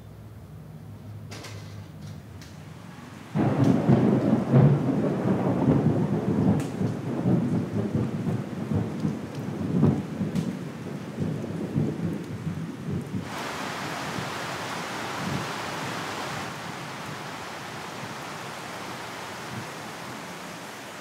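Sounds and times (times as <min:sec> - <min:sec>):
heavy rain: 0:02.7 - 0:21.0
thunder rumbling: 0:03.3 - 0:21.0.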